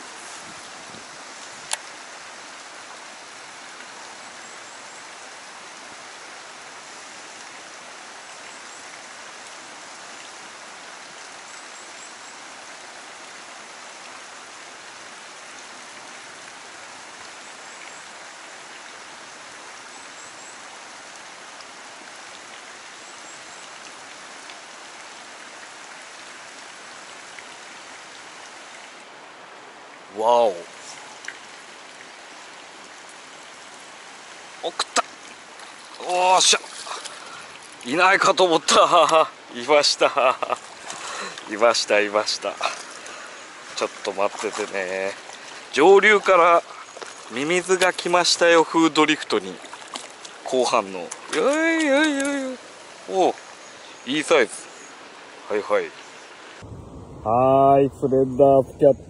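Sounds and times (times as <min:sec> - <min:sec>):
stream rushing over rock: 0:00.0 - 0:59.0.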